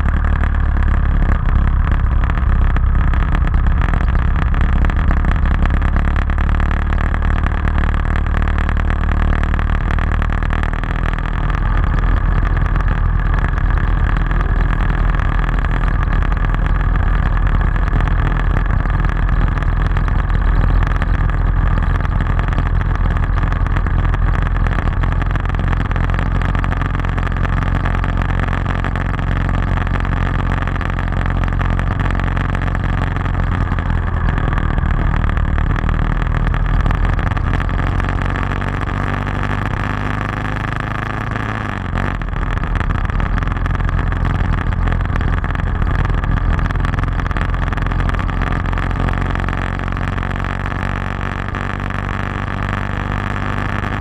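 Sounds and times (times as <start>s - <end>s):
motorcycle engine running: 0.0s - 54.0s
wind and road rush: 0.0s - 54.0s.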